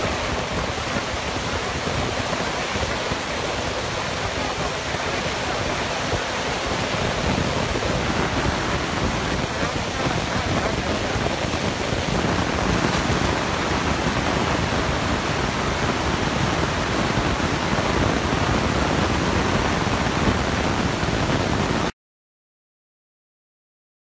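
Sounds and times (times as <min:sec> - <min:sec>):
excavator dense rushing noise: 0:00.0 - 0:21.9.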